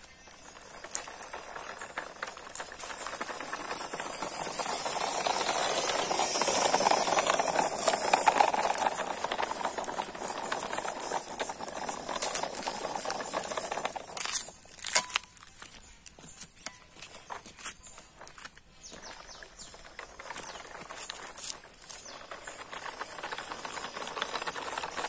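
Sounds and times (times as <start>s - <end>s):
plastic wheels rattling: 0.0s - 25.0s
toy truck motor whirring: 0.0s - 25.0s.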